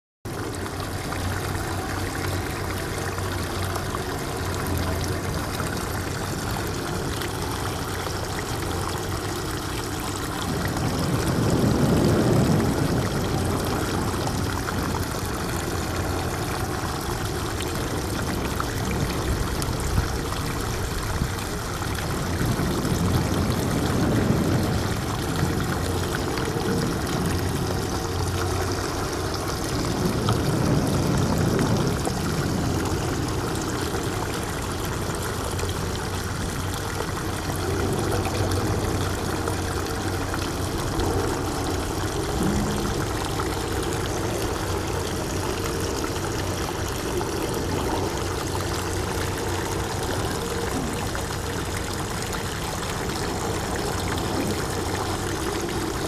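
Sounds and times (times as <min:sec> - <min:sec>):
seawater lapping in tide pool: 0:00.2 - 0:56.0
low hum: 0:00.3 - 0:56.0.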